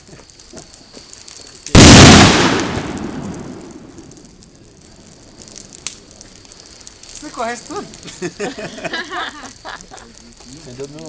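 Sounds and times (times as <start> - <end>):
firecracker exploding: 0.0 - 11.0.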